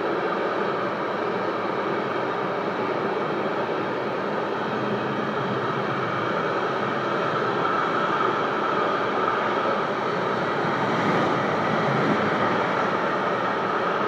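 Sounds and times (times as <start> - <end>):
electric train passing: 0.3 - 14.0
freight train rolling: 2.6 - 14.0.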